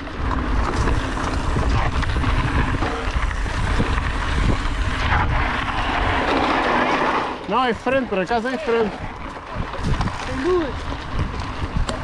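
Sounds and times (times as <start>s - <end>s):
bike rattling over bumps: 0.0s - 12.0s
tyres crunching over dirt: 0.0s - 12.0s
wind buffeting microphone: 0.0s - 12.0s.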